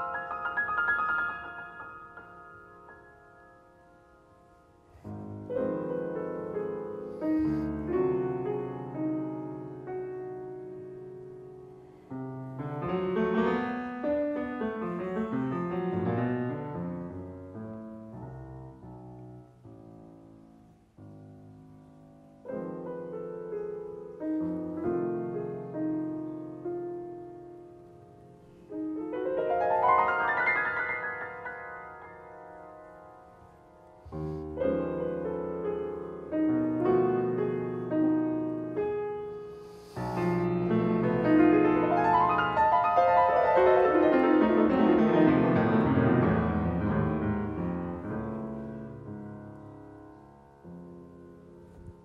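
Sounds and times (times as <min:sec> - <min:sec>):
grand piano playing classical music: 0:00.0 - 0:52.0.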